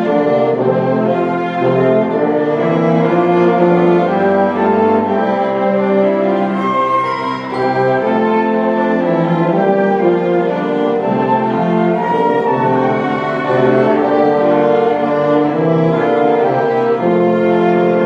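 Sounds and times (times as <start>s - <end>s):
orchestra bowed strings: 0.0s - 18.0s.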